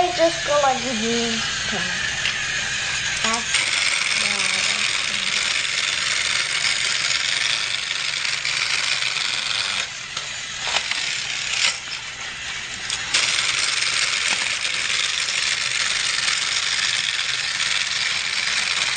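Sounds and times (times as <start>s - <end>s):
toy train rattling whir: 0.0s - 18.9s.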